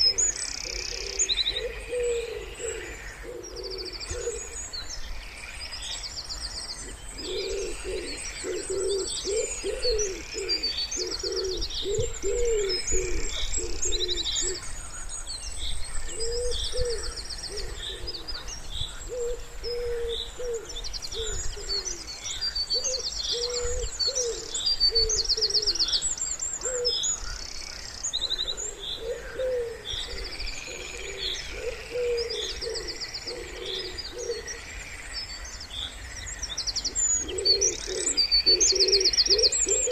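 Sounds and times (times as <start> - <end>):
wood pigeons cooing: 0.0 - 4.7, 6.8 - 14.8, 16.0 - 27.5, 28.2 - 34.7, 36.9 - 39.9
songbirds chirping and trilling: 0.0 - 39.9.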